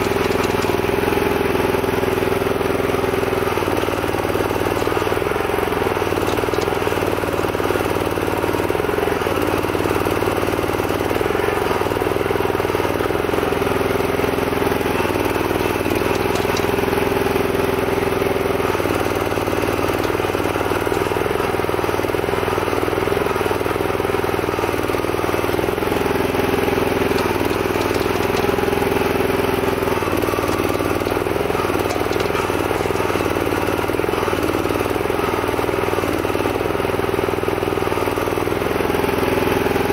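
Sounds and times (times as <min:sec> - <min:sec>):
single-cylinder petrol engine running: 0:00.0 - 0:39.9.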